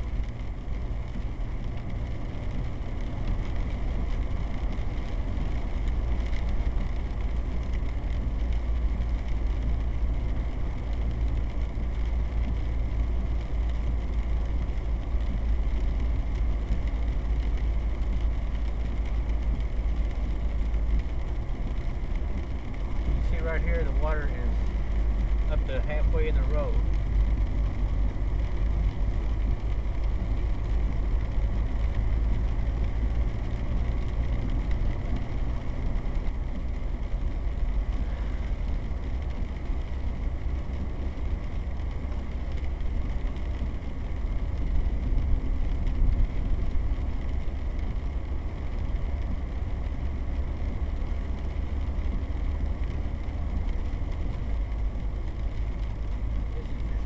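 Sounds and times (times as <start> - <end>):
engine and tyre rumble: 0.0 - 57.0
tyres hissing on wet pavement: 9.6 - 57.0.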